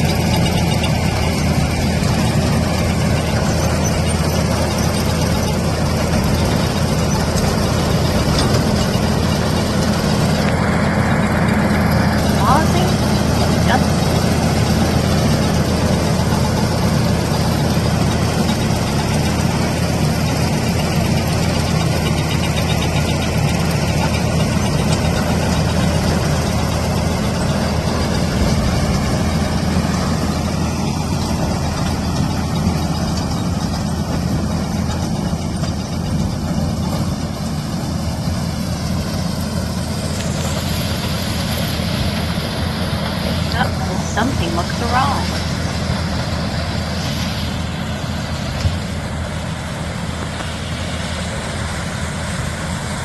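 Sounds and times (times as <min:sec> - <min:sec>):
tractor and sheller droning: 0:00.0 - 0:53.0.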